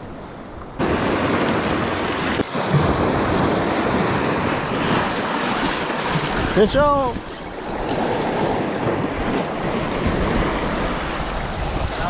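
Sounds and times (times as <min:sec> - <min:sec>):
surf breaking on rocks: 0:00.8 - 0:12.0.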